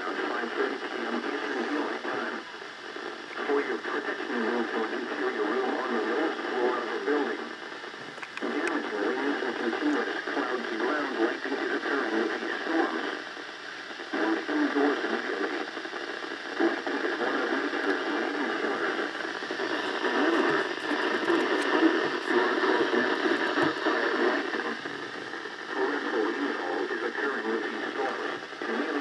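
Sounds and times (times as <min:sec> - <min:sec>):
voice over radio: 0:00.0 - 0:13.3, 0:13.9 - 0:29.0
radio static hiss: 0:00.0 - 0:29.0.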